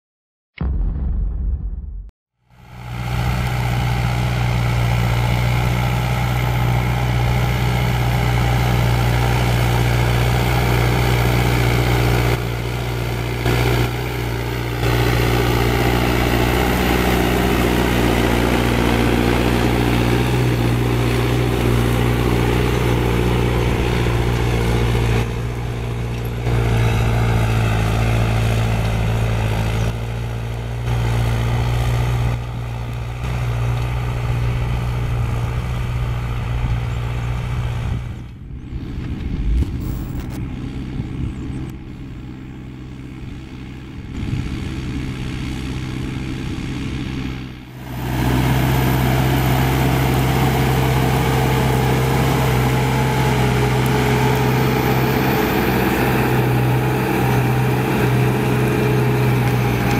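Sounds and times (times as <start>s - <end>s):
tractor diesel engine running: 2.4s - 59.9s.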